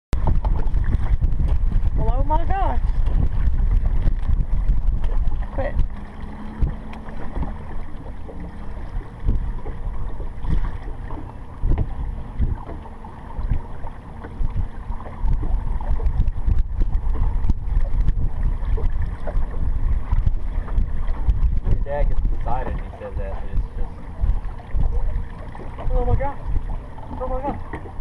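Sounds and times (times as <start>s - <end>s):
wind buffeting microphone: 0.1s - 28.0s.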